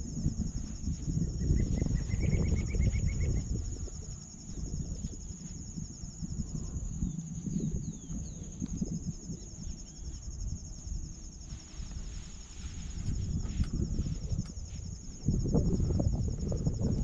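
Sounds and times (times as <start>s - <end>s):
fast pulsing insect trill: 0.0s - 17.0s
insects trilling: 0.0s - 17.0s
low rumbling on microphone: 0.0s - 17.0s.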